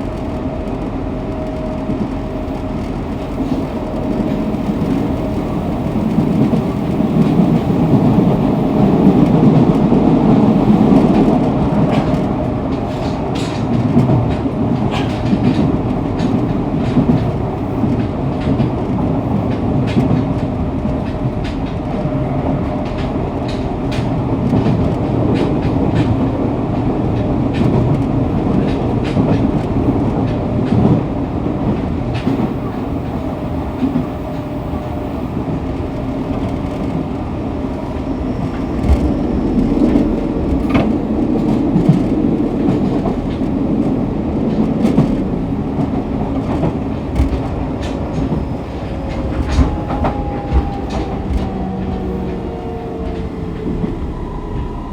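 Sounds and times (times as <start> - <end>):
train wheels rumbling: 0.0 - 54.9
wheels clacking over rail joints: 0.0 - 54.9.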